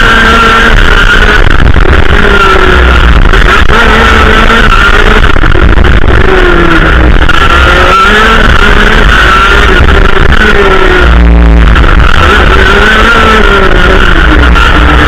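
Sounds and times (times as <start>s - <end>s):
kart engine revving: 0.0s - 15.0s
wind noise on microphone: 0.0s - 15.0s.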